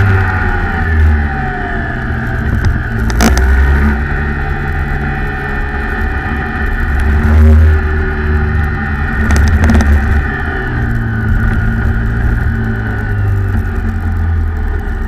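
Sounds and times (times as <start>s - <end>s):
kart engine: 0.0s - 15.0s.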